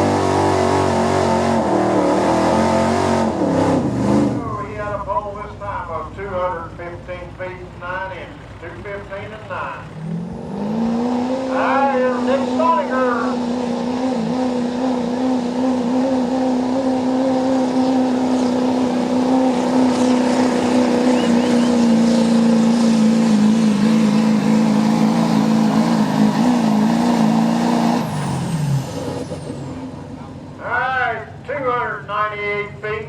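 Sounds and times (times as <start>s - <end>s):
truck engine at high revs: 0.0s - 32.6s.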